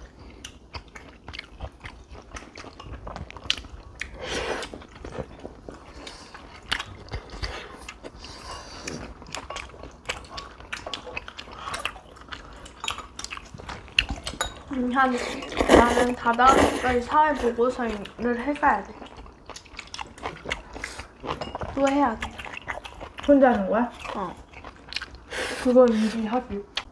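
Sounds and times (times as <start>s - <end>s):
close chewing with mouth clicks: 0.0s - 26.9s.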